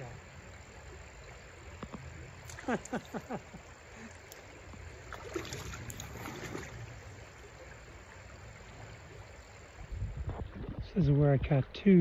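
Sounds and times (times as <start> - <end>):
water splashes: 0.0 - 11.2
stream running: 0.0 - 12.0.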